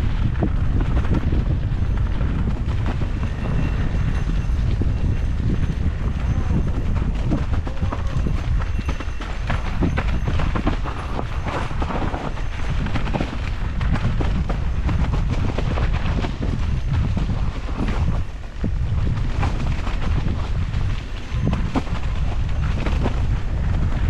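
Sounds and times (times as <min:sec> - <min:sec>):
bike knocking and rattling: 0:00.0 - 0:24.0
wind rumbling on microphone: 0:00.0 - 0:24.0.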